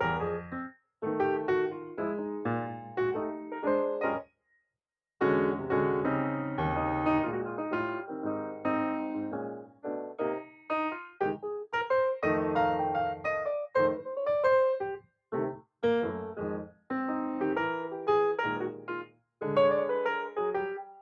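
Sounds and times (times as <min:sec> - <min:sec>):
piano music: 0:00.0 - 0:04.2, 0:05.2 - 0:21.0.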